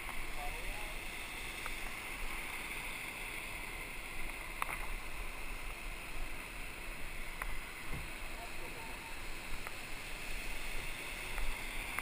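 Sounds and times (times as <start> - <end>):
rushing water and wind: 0.0 - 12.0.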